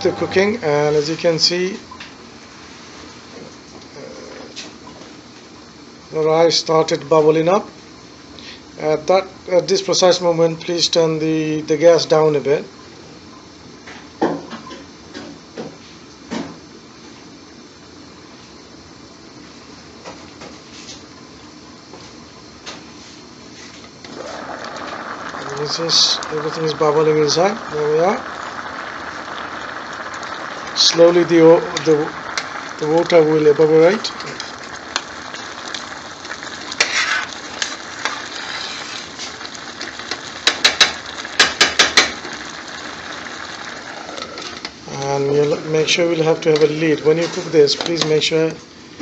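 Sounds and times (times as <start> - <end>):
water boiling with bubbling hiss: 0.0 - 49.0.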